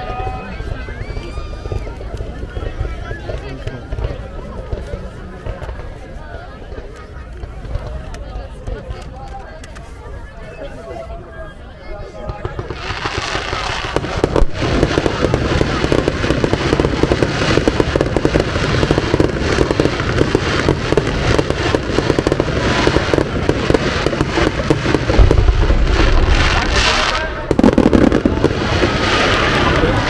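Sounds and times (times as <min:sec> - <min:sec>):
low firework booms: 0:00.0 - 0:09.0, 0:12.2 - 0:30.0
fireworks bangs and crackling: 0:00.0 - 0:30.0.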